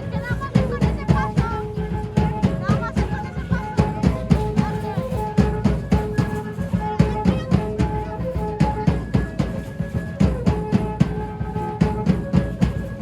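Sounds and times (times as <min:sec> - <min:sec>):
fast drum beats: 0:00.0 - 0:13.0.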